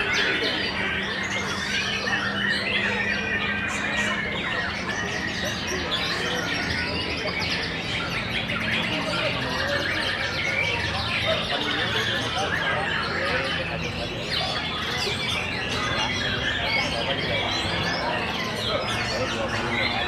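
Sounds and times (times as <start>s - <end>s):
birds singing whistles and chirps: 0.0s - 20.0s.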